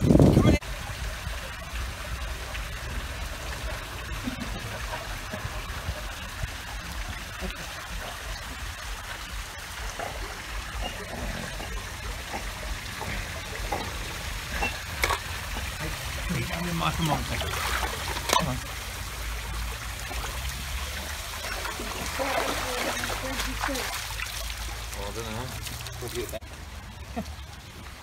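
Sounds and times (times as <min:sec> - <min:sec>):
pool water splashing and lapping: 0:00.0 - 0:28.0.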